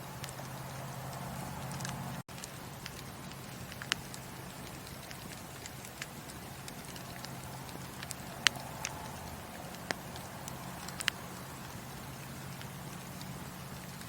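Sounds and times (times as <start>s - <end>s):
fire low hiss: 0.0s - 14.0s
wood fire crackling and popping: 0.0s - 14.0s.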